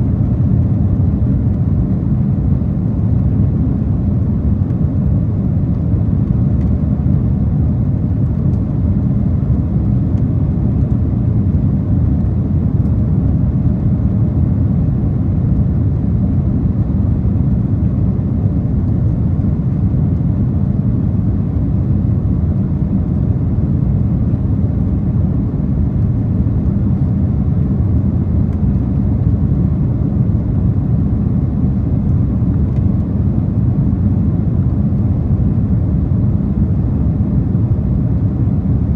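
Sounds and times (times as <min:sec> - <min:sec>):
airplane cabin low rumble: 0:00.0 - 0:38.9.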